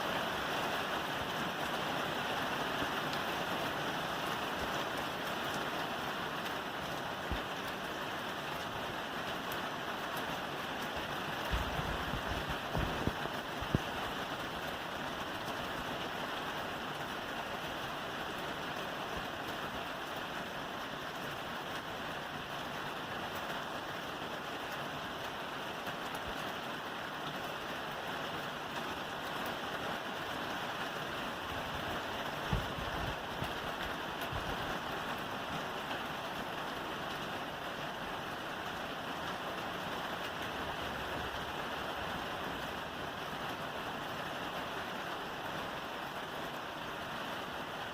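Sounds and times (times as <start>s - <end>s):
rain on a roof: 0.0s - 47.9s.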